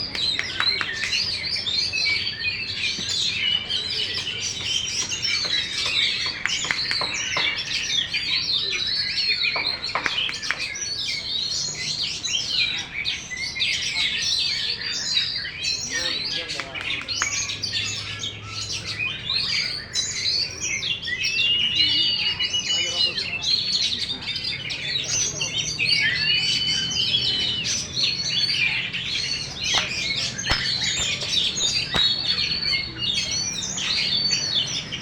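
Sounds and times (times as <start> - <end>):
songbird singing varied song: 0.0 - 35.0.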